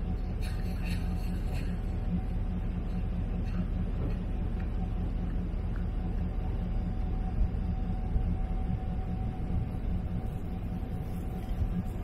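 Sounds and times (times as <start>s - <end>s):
faint steady whine: 0.0s - 12.0s
truck engine idling: 0.0s - 12.0s.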